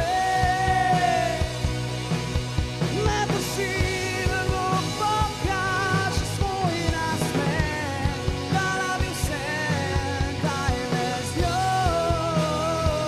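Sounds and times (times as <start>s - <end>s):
man singing: 0.0s - 1.8s, 2.8s - 13.0s
rock band playing live: 0.0s - 13.0s
steady drum beat: 0.0s - 13.0s.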